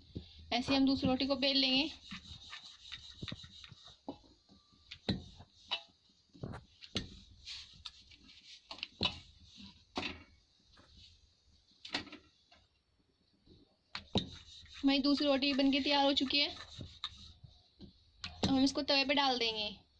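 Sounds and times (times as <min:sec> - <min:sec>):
rolling pin rubbing dough: 0:00.0 - 0:12.4, 0:13.4 - 0:19.2.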